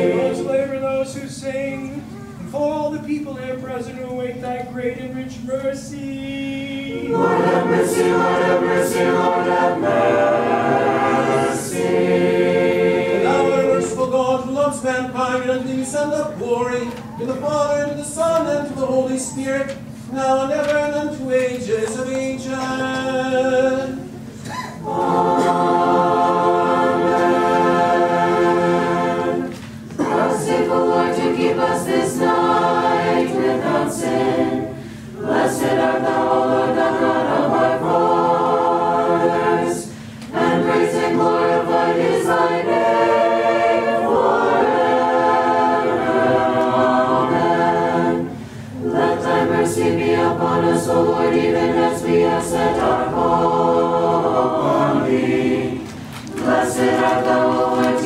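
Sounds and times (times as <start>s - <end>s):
choir singing a hymn: 0.0s - 2.0s, 6.2s - 58.0s.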